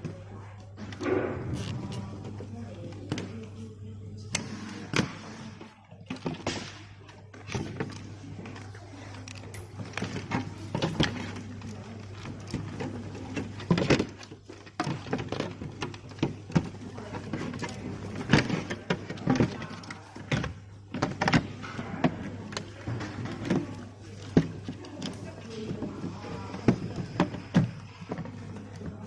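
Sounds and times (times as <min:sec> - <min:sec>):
clicks and knocks of parts handled: 0:04.3 - 0:29.0.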